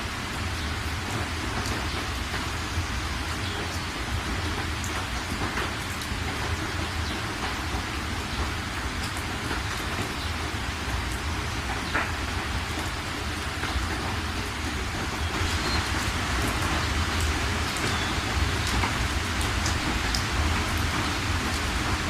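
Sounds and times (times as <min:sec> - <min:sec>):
rain falling: 0:00.0 - 0:22.0
raindrop ticks: 0:03.3 - 0:22.0.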